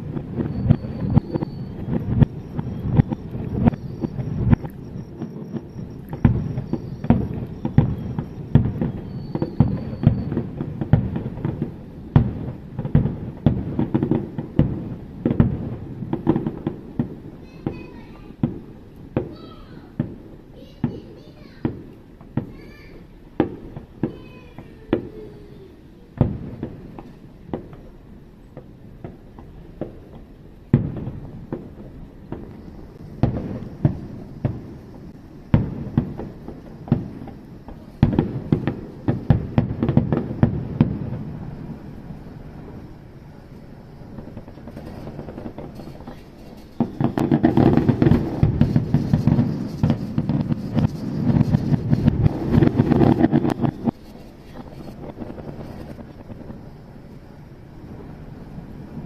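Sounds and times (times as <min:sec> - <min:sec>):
crackling fireworks bangs: 0:00.0 - 0:59.0
fireworks bangs: 0:00.0 - 0:59.0
fireworks whistling: 0:00.0 - 0:59.0.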